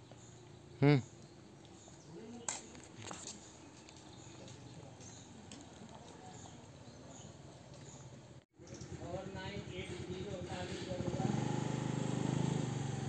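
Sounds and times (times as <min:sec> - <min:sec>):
distant bird chirps: 0:00.0 - 0:10.5.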